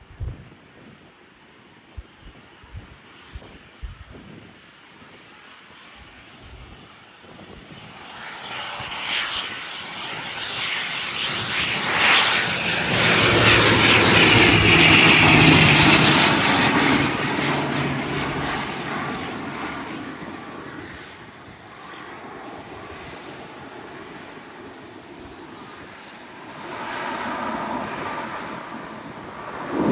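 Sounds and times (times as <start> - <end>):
airplane engines passing: 0.0 - 29.9.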